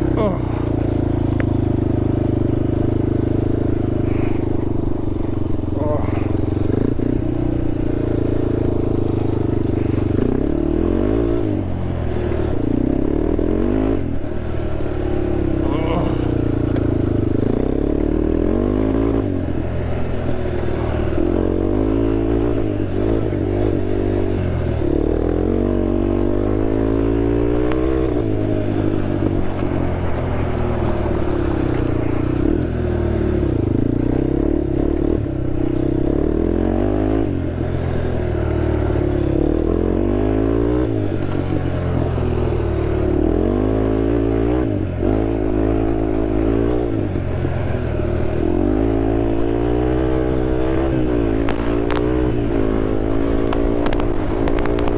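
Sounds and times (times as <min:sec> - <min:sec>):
quad bike engine revving: 0:00.0 - 0:54.9.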